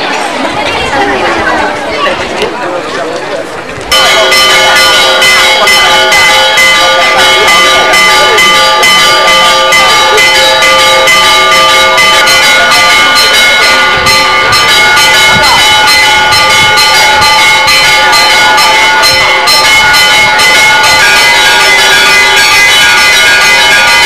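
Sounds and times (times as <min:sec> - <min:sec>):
church bells pealing: 0:03.9 - 0:24.0.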